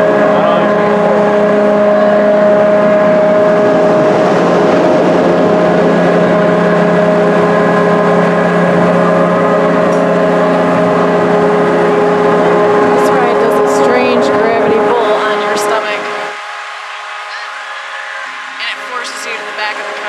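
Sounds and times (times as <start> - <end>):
fairground ride mechanical hum: 0.0 - 20.0
whining drive tones: 0.0 - 20.0.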